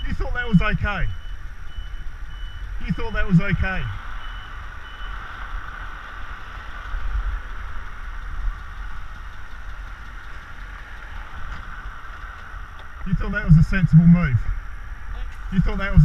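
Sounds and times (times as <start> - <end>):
traffic noise: 0.0 - 16.0
vehicle engine idling: 0.0 - 16.0.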